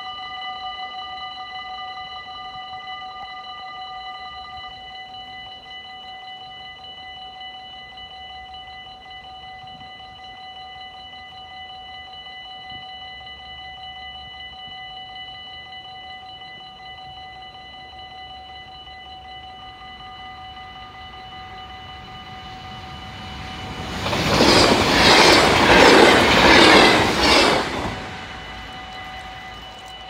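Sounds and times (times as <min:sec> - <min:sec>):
level-crossing warning bell: 0:00.0 - 0:30.0.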